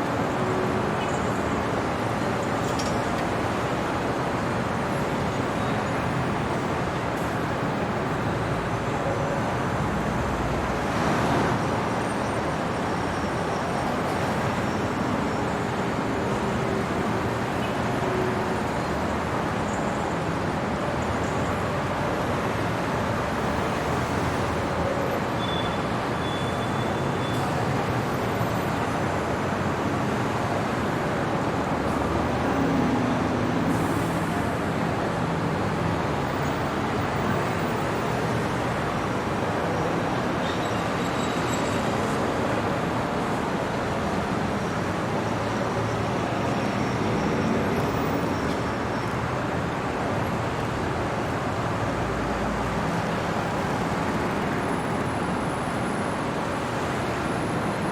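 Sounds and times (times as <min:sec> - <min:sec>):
city traffic noise: 0:00.0 - 0:57.9.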